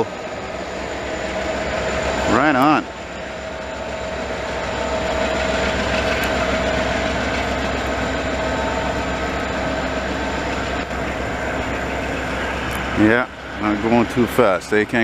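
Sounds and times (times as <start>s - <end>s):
freight train rumbling on rails: 0.0s - 15.0s
high whine: 0.0s - 15.0s.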